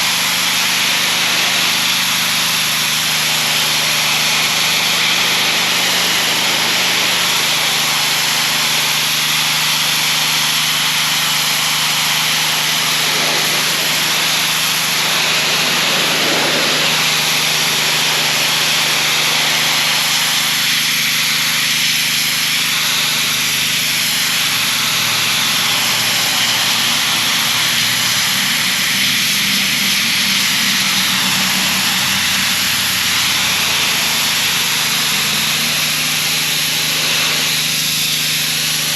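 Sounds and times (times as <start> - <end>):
pressure washer engine running: 0.0 - 38.9
water jet spraying wall: 0.0 - 38.9.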